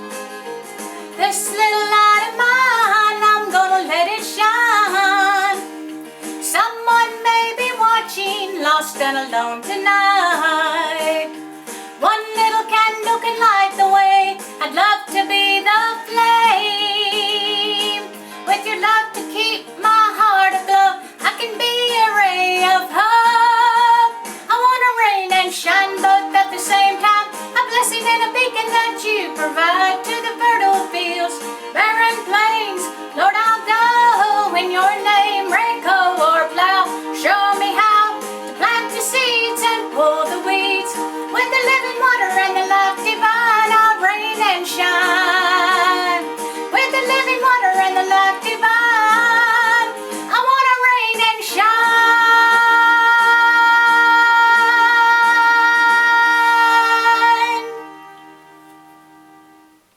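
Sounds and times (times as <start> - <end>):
instrumental backing track: 0.0 - 59.9
woman singing gospel: 1.2 - 5.7, 6.4 - 11.4, 12.0 - 57.8.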